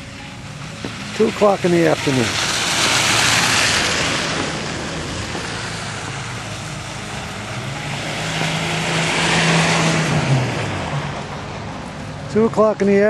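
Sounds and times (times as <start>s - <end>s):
engine hum: 0.0s - 13.0s
road noise of passing vehicle: 0.0s - 13.0s.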